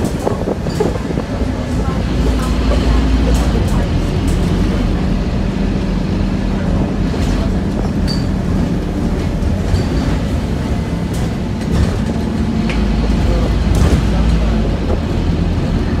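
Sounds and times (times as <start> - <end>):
bus diesel engine hum: 0.0 - 16.0
road rumble: 0.0 - 16.0.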